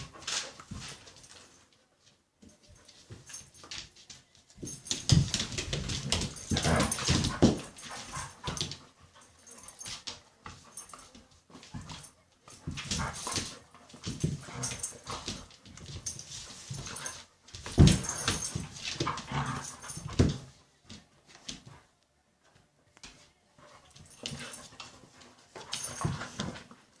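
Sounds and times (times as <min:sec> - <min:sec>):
dogs play-fighting: 0:00.0 - 0:27.0.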